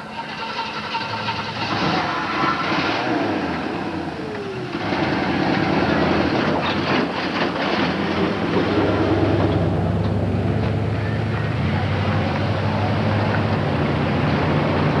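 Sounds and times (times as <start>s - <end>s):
car engine running: 1.0s - 15.0s.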